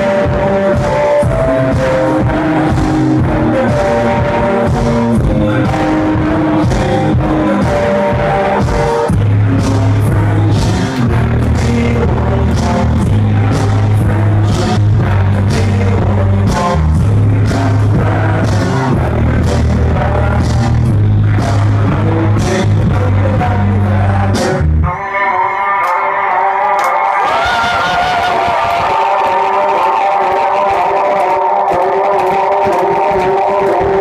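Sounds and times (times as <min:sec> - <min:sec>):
electronic dance music: 0:00.0 - 0:34.0.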